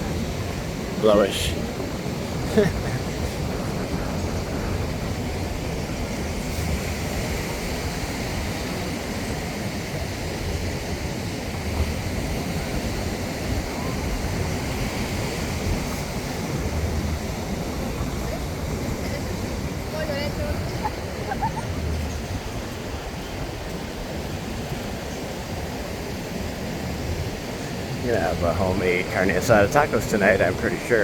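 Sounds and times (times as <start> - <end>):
ocean surf: 0.0 - 31.0
wind buffeting microphone: 0.0 - 31.0.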